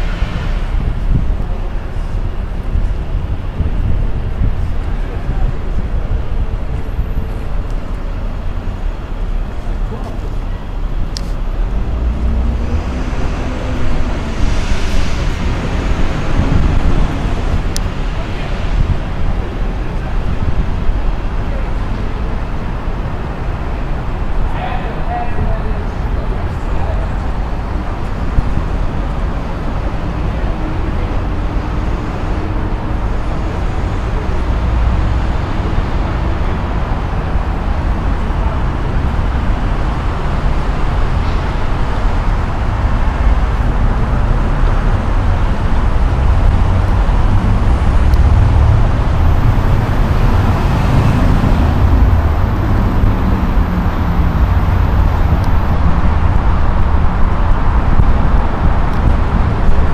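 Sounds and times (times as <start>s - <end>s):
low waterfront rumble: 0.0s - 59.9s.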